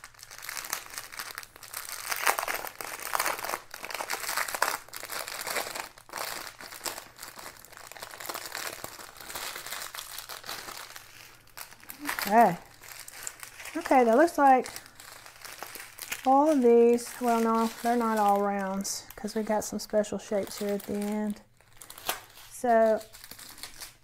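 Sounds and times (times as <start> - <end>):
plastic bags crinkling: 0.0 - 24.0.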